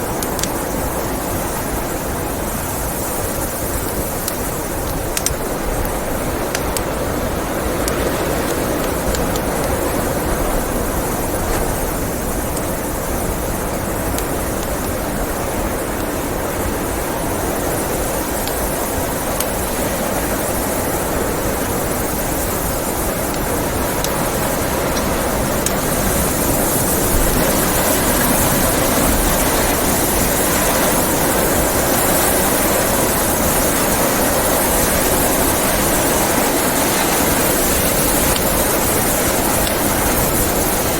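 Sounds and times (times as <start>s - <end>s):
wood fire crackling: 0.0s - 32.9s
blizzard wind blowing: 0.0s - 40.9s.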